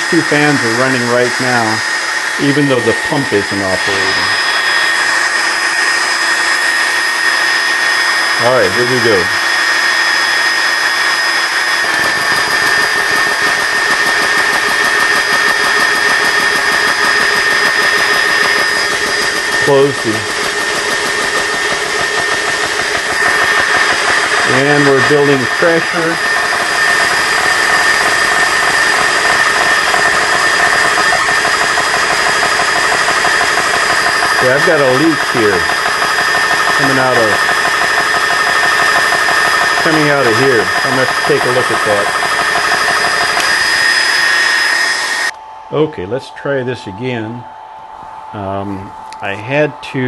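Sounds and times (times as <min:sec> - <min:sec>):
air compressor pump pulsing: 0:00.0 - 0:45.4
cooling fans whining: 0:00.0 - 0:50.0.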